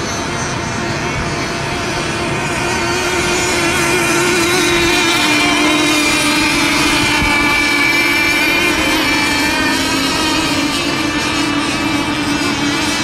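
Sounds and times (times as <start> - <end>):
racing boat motors whining: 0.0 - 13.0.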